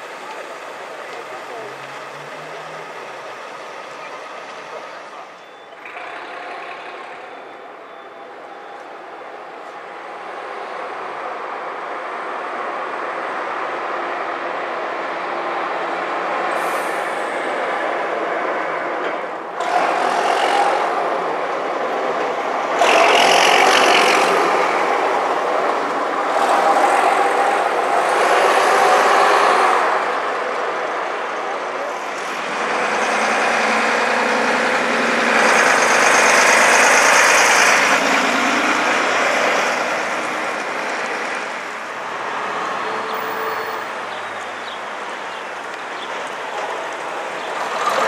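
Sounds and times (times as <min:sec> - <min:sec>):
diesel buses driving past: 0:00.0 - 0:48.0.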